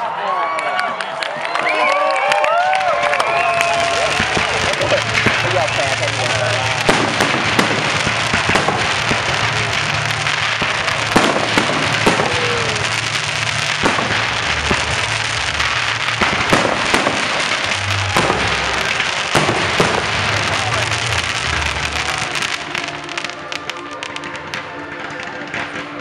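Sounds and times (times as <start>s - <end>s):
fireworks crackling and banging: 0.7s - 26.0s
firework whistle: 1.6s - 25.9s.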